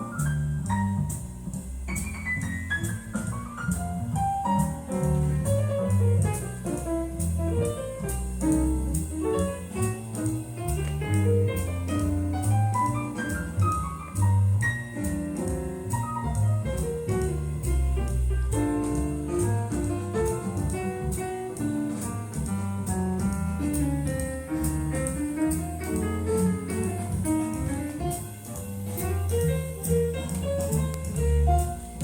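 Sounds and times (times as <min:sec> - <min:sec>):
jazz piano: 0:00.0 - 0:32.0
walking bass line: 0:00.0 - 0:32.0.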